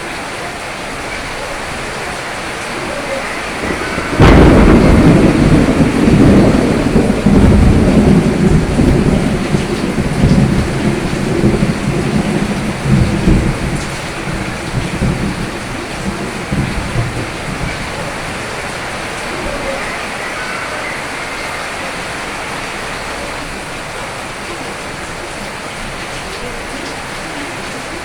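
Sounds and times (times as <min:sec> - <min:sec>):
rolling thunder rumble: 0:00.0 - 0:28.0
steady rain: 0:00.0 - 0:28.0
thunderclap: 0:01.2 - 0:23.9.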